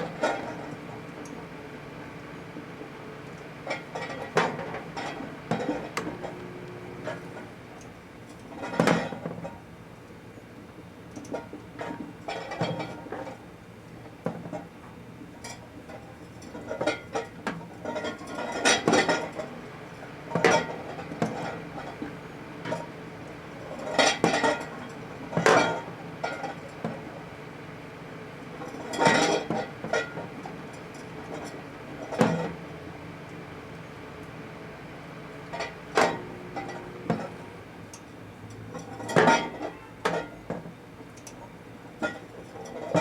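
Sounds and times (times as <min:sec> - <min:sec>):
microwave oven humming: 0:00.0 - 0:43.0.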